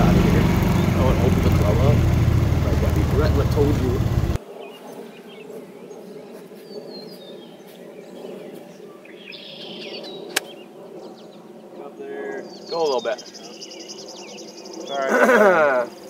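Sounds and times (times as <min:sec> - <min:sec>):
background hum: 0:00.0 - 0:16.0
birds chirping: 0:00.0 - 0:16.0.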